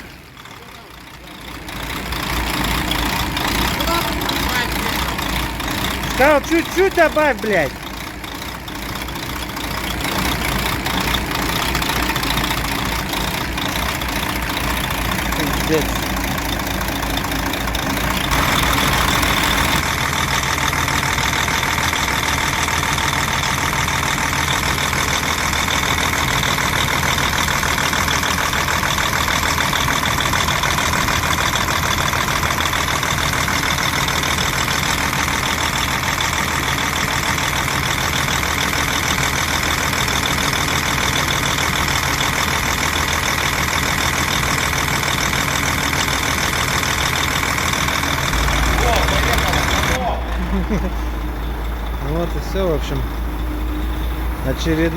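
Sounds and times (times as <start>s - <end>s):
truck diesel engine running: 0.0s - 54.9s.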